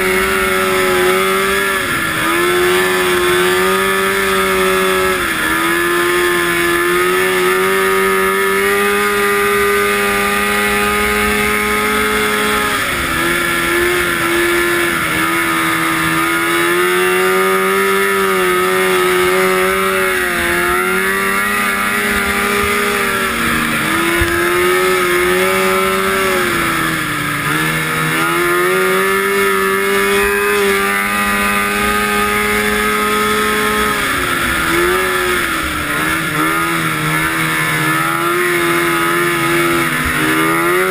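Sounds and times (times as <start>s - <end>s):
snowmobile engine running hard: 0.0s - 40.9s.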